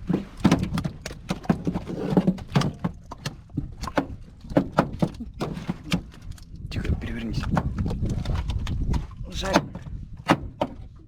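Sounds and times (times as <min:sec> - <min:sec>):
rapid knocks and thumps: 0:00.0 - 0:06.3, 0:07.4 - 0:11.0.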